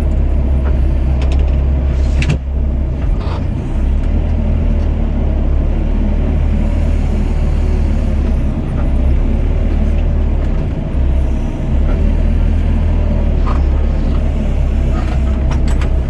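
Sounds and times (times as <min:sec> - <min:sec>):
mini excavator diesel engine rumble: 0:00.0 - 0:16.0.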